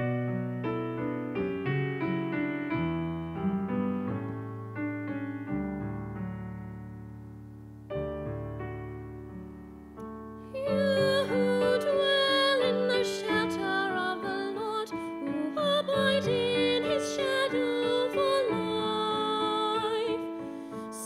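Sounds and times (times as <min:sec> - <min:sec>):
electric piano playing: 0:00.0 - 0:21.0.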